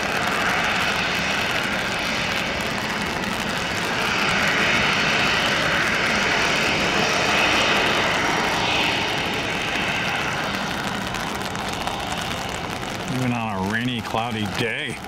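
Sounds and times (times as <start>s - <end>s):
jet engines at taxi power: 0.0s - 15.0s
rain falling: 0.0s - 15.0s.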